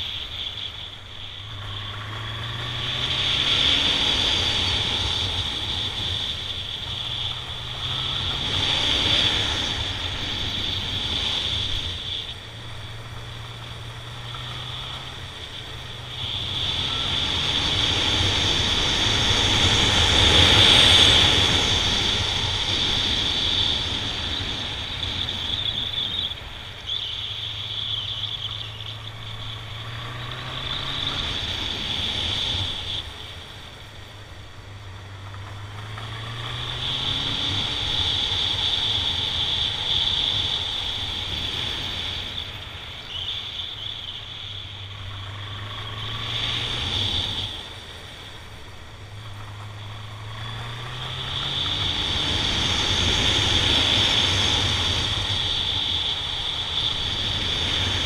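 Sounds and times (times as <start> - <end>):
wind rushing over microphone: 0.0 - 34.1, 35.1 - 58.0
motorcycle engine: 0.0 - 58.0.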